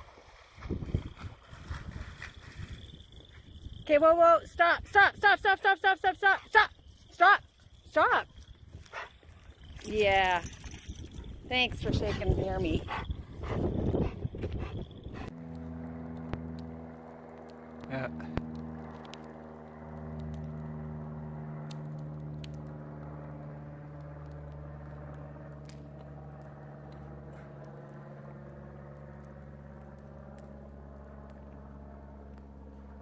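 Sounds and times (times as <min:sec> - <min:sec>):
airplane engine droning overhead: 0:00.0 - 0:33.0.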